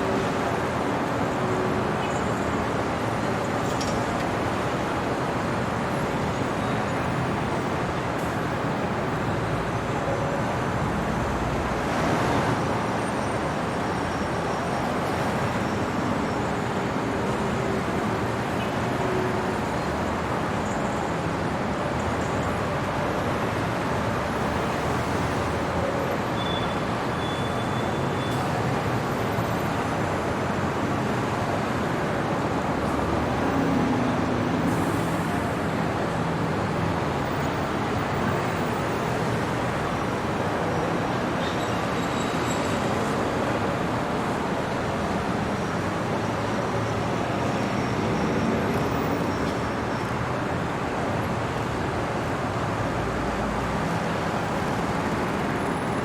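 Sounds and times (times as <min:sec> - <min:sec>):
road noise from passing cars: 0:00.0 - 0:56.0.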